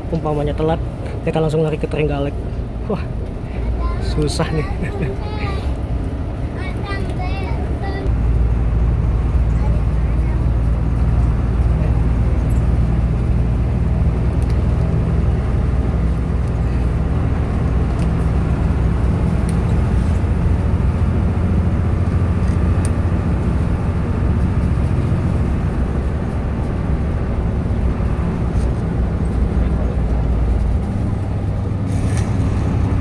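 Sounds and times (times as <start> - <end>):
bus diesel engine running: 0.0 - 33.0
road noise: 0.0 - 33.0.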